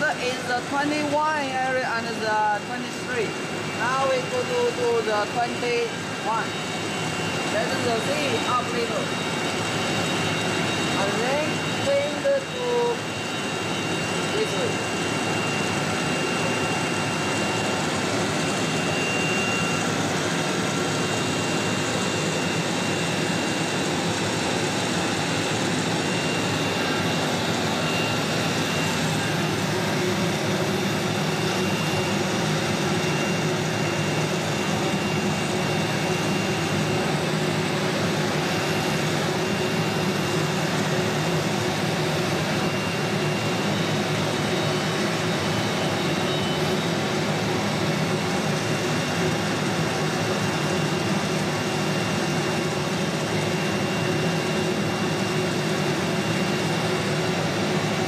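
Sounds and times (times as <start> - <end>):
cnc router machinery humming: 0.0 - 58.0.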